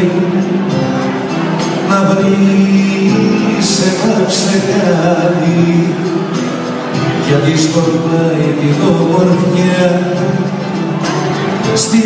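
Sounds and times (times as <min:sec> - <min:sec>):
person singing long notes: 0:00.0 - 0:10.8
string band playing folk music: 0:00.0 - 0:12.0.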